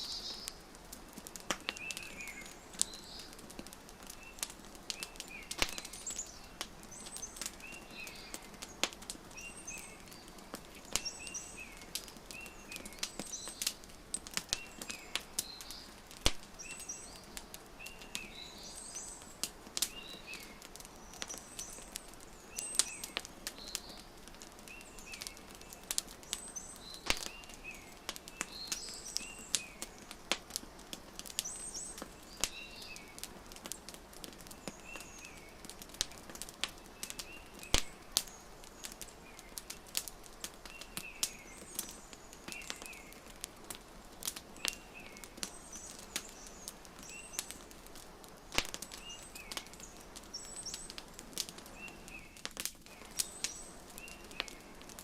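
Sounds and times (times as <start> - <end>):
small birds chirping: 0.0 - 55.0
wood fire crackling: 0.0 - 55.0.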